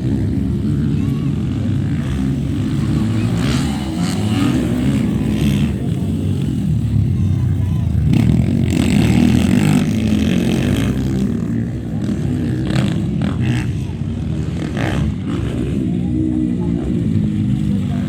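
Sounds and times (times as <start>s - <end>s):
motorcycle engines revving: 0.0s - 18.0s
voices: 0.0s - 18.0s.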